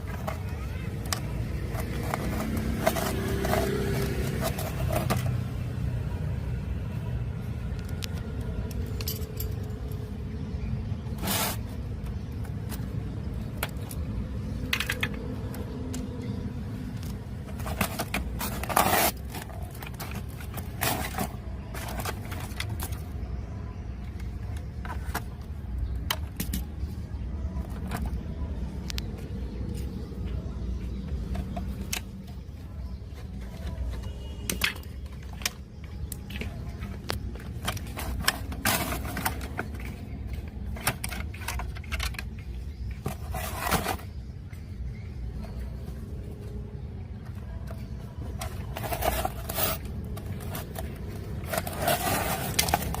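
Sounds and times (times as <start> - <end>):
small parts and tools handled: 0.0 - 5.8, 7.6 - 23.4, 24.0 - 30.4, 31.0 - 53.0.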